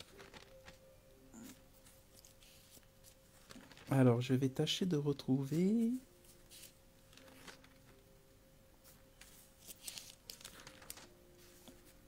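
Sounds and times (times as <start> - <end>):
thin pages rustling: 0.0 - 4.3, 5.3 - 8.0, 8.8 - 12.0
faint steady hum: 0.0 - 12.0.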